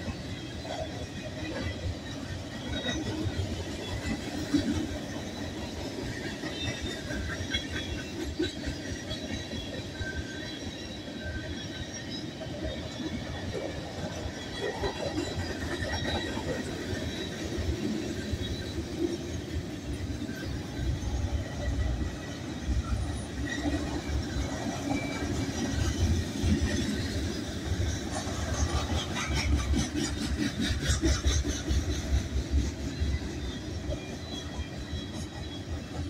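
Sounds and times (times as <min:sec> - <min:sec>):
train wheels rumbling over rails: 0:00.0 - 0:36.0.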